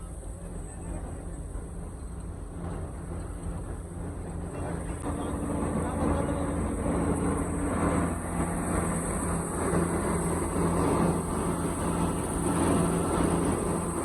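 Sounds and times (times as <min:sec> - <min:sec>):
machinery engine humming: 0:00.0 - 0:14.0.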